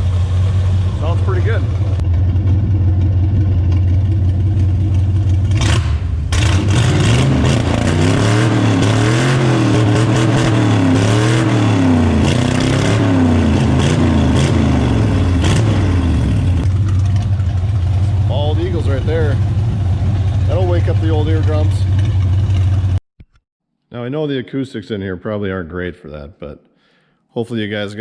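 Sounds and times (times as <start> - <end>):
race car engine revving: 0.0 - 22.9.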